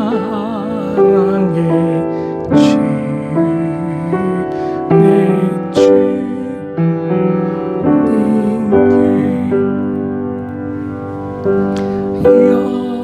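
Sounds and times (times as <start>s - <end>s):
piano playing slow hymn: 0.0s - 13.0s.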